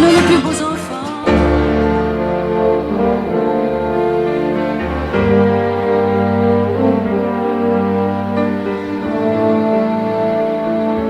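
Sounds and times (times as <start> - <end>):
orchestral strings and brass chords: 0.0 - 11.0.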